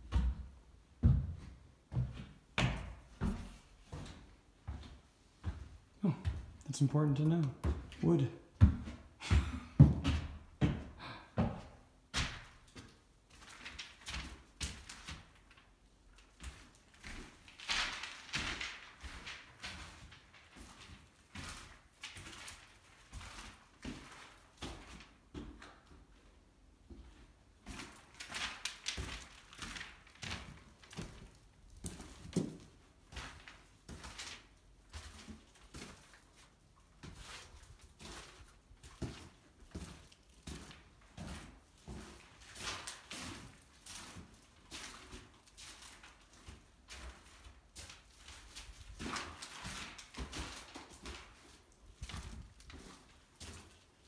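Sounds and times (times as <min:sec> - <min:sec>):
footsteps on a bare floor: 0:00.0 - 0:54.0.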